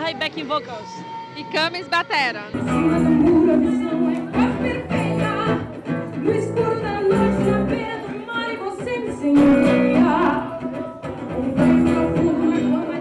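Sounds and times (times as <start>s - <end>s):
live rock band guitars: 0.0s - 13.0s
woman singing: 0.0s - 13.0s.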